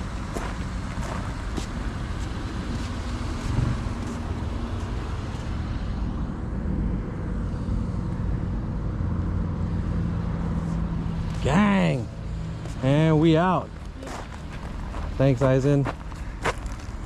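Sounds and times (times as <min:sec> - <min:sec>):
car engine running: 0:00.0 - 0:17.0
road noise rumble: 0:00.0 - 0:17.0.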